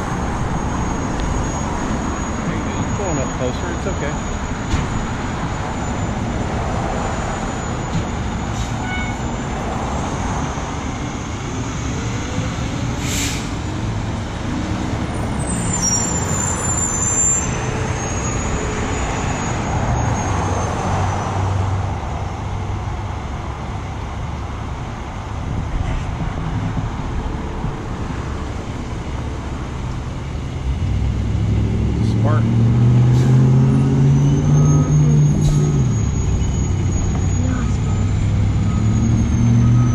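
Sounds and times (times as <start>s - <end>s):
large vehicle engine: 0.0s - 39.9s
road traffic passing: 0.0s - 39.9s.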